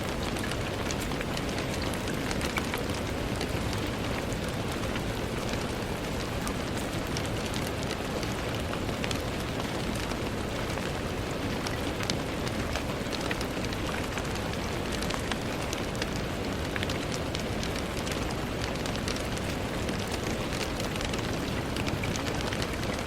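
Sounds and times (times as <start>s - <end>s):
rain on a window: 0.0s - 23.0s.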